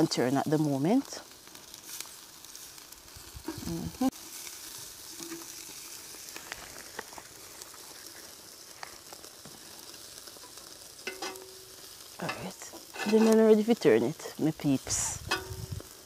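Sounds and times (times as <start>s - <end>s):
crawfish sizzling: 0.0s - 16.0s
small crackles and pops: 0.0s - 16.0s.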